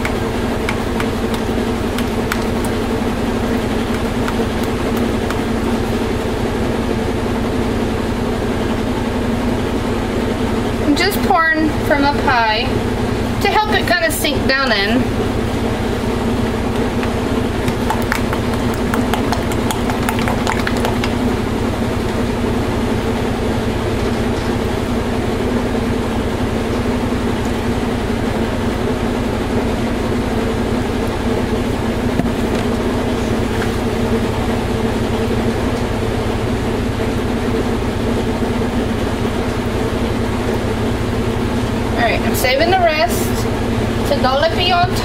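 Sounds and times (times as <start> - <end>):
washing machine spinning: 0.0 - 45.0.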